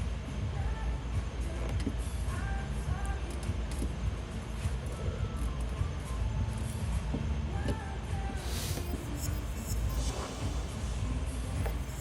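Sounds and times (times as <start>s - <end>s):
background music with low beat: 0.0s - 12.0s.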